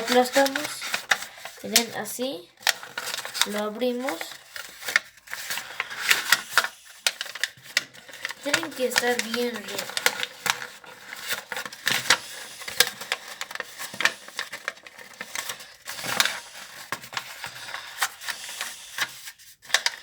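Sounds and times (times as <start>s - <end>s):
paper crinkling: 0.0s - 20.0s.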